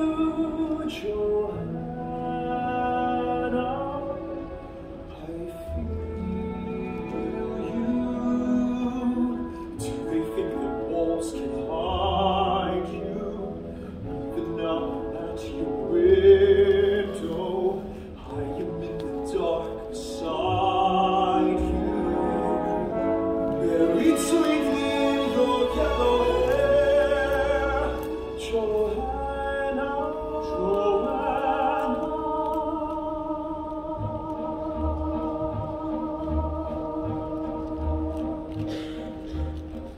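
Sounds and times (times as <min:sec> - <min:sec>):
man singing ballad with vibrato: 0:00.0 - 0:06.5, 0:07.1 - 0:38.1
pit orchestra: 0:00.0 - 0:39.9.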